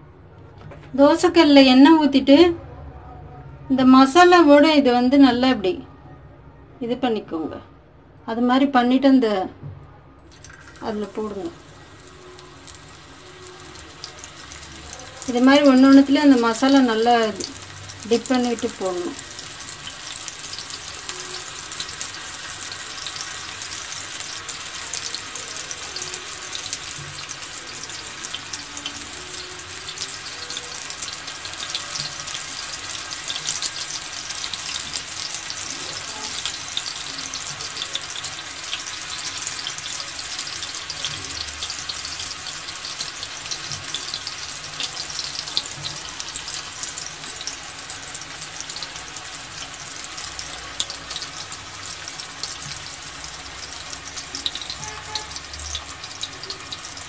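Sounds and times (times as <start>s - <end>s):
banana slices sizzling in oil: 10.3s - 57.0s.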